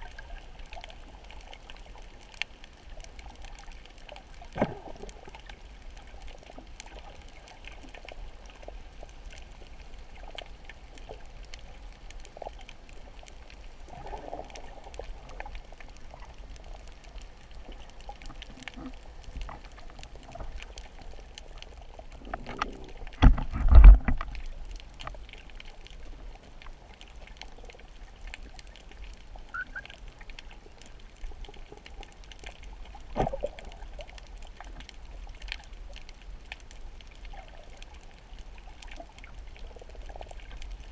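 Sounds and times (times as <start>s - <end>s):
faint clicks: 0.0s - 40.9s.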